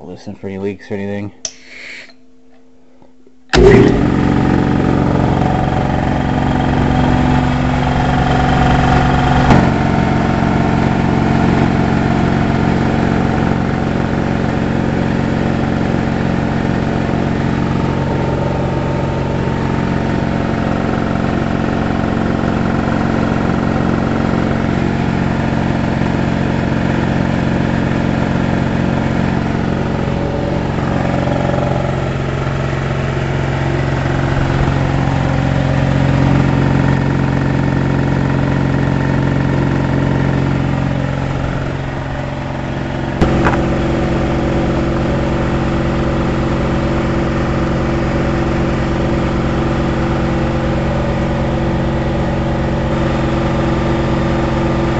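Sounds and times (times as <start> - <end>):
air compressor running: 3.5 - 54.9.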